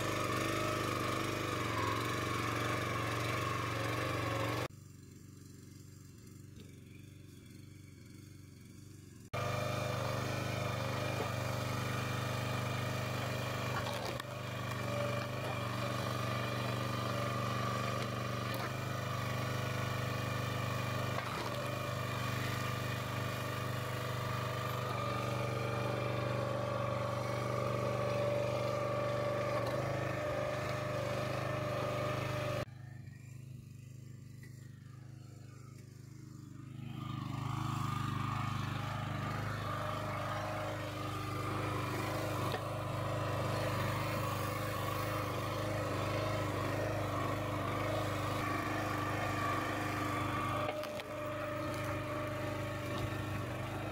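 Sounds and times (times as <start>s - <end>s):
log splitter engine running: 0.0s - 53.9s.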